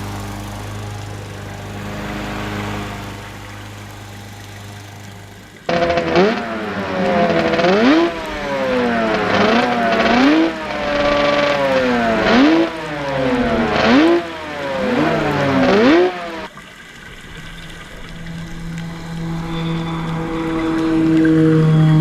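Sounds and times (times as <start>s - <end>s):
engine revving: 0.0s - 16.5s, 17.9s - 22.0s.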